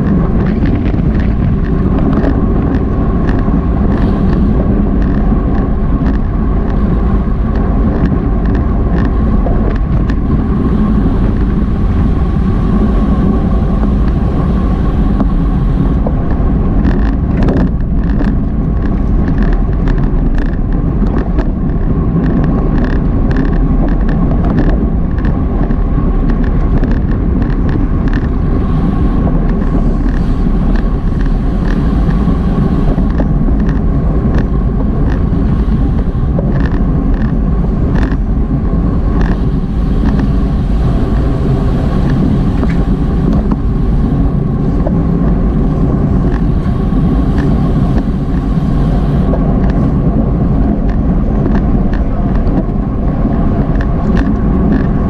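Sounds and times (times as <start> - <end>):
scattered clicks: 0.0 - 12.0, 12.8 - 55.0
bicycle tyre and drivetrain noise: 0.0 - 55.0
faint steady whine: 0.0 - 55.0
wind rushing over microphone: 0.0 - 55.0.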